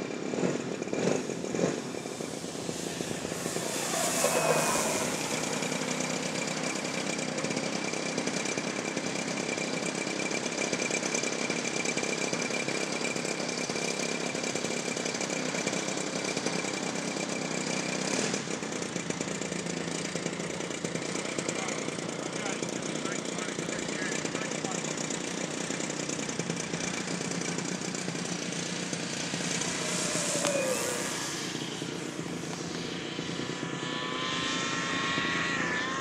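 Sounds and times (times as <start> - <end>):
model plane motor whine: 0.0 - 36.0.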